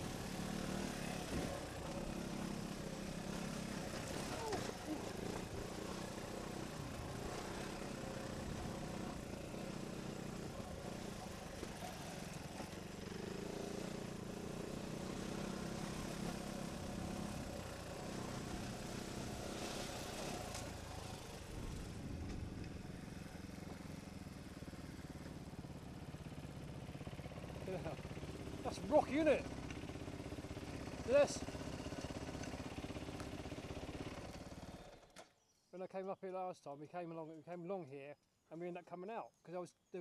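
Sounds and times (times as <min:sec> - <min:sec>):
motorcycle engine running: 0:00.0 - 0:35.1.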